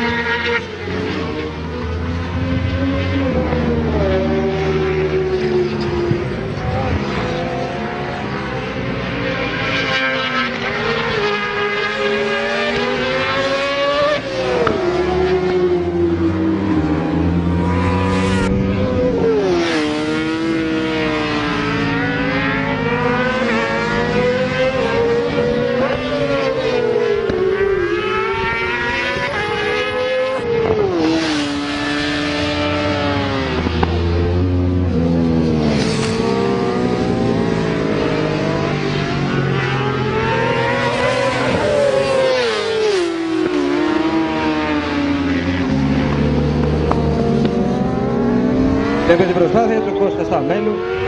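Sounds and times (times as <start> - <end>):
racing motorcycles revving: 0.0 - 51.0.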